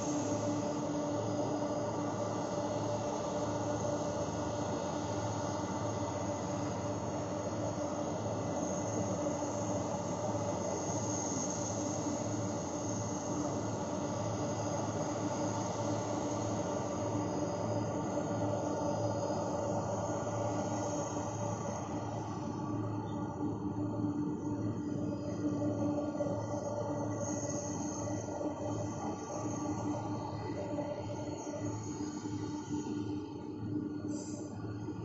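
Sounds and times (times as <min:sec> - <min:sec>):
jet engines idling: 0:00.0 - 0:35.0.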